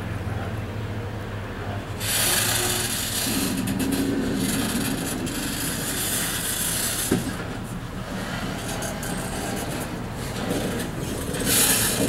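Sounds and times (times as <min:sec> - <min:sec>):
steel wheels grinding on rails: 0:02.0 - 0:12.0.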